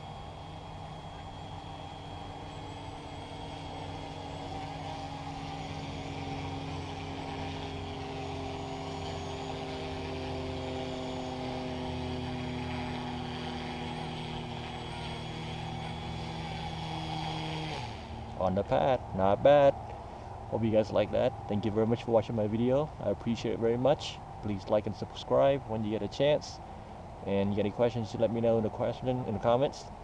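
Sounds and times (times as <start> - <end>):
model helicopter rotors whining: 0.0 - 30.0.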